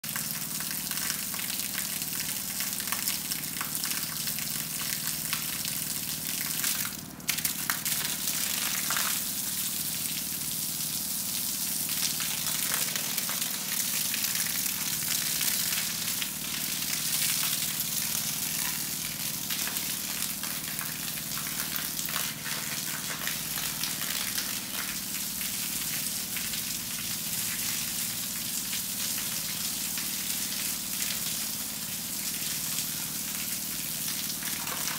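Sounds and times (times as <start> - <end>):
hose water splashing on concrete: 0.0 - 34.9.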